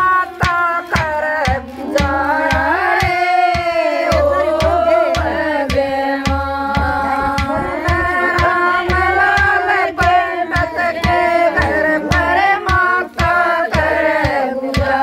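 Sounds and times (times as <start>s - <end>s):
hand drumming on clay pot: 0.0s - 15.0s
women singing together: 0.0s - 15.0s.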